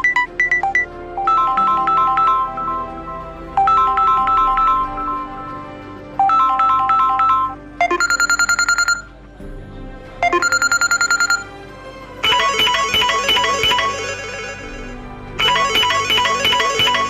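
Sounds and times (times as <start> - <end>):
pulsing high ringtone notes: 0.0 - 5.6, 6.2 - 9.1, 10.2 - 11.5, 12.2 - 14.6, 15.4 - 17.0
chiming ringtone melody: 0.0 - 9.1, 10.2 - 11.5, 12.2 - 14.6, 15.4 - 17.0.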